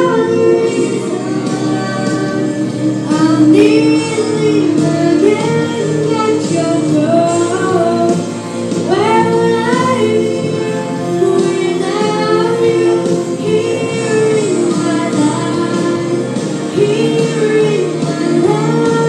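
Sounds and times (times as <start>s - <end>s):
girl singing into a microphone: 0.0s - 19.0s
musical accompaniment: 0.0s - 19.0s.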